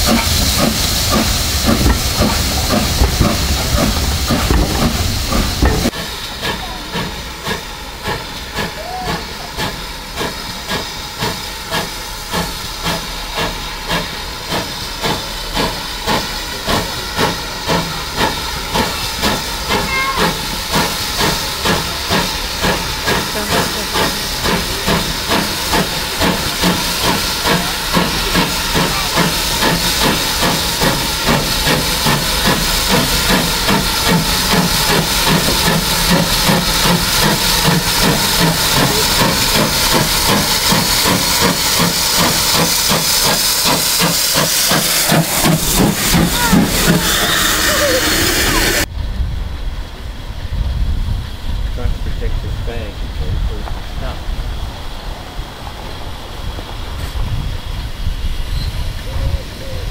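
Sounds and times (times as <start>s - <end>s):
steady hiss of steam: 0.0s - 59.9s
steam locomotive exhaust beats: 0.0s - 59.9s.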